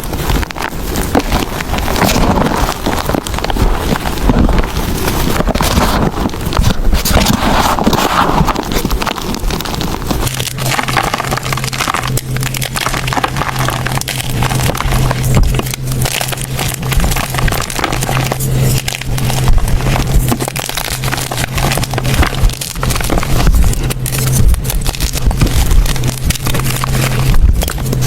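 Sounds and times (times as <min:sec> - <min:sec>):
chalk crushed by hand: 0:00.0 - 0:28.0
low steady hum: 0:00.0 - 0:28.0.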